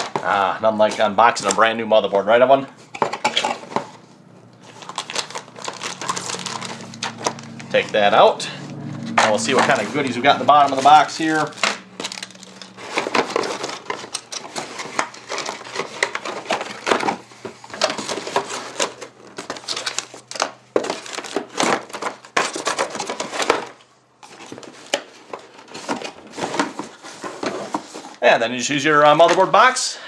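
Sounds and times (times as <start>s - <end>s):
cardboard and plastic rustling: 0.0s - 29.8s.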